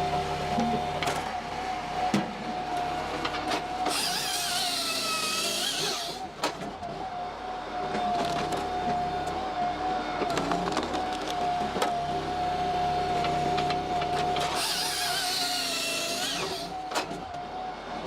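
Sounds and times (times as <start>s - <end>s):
wood chipper whine: 0.0s - 18.0s.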